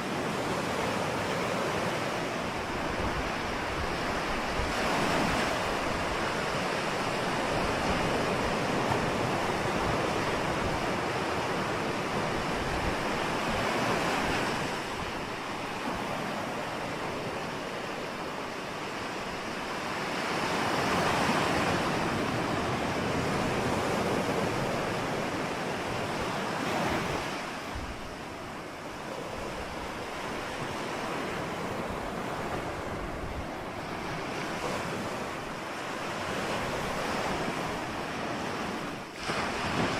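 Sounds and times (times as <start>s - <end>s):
ocean waves rushing: 0.0s - 39.9s.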